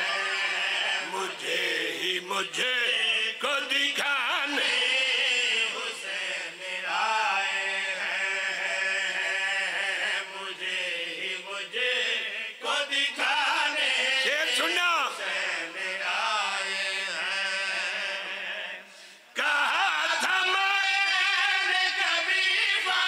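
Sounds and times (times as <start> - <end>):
men chanting into microphones: 0.0 - 23.0.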